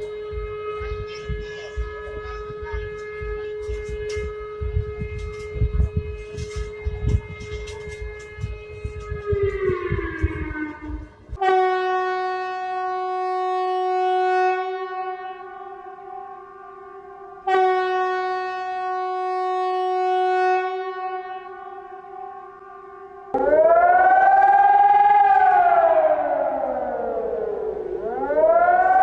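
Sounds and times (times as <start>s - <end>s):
falling siren tone: 0.0s - 29.0s
long steady alarm tones: 0.0s - 29.0s.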